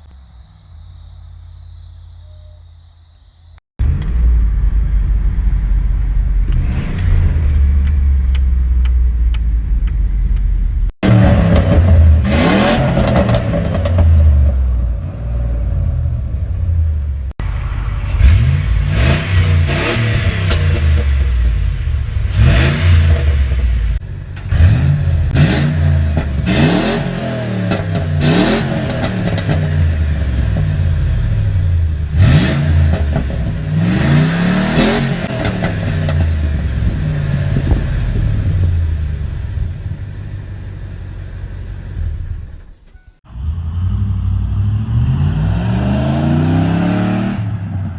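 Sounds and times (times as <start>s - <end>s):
truck engine idling and revving: 3.8s - 47.9s.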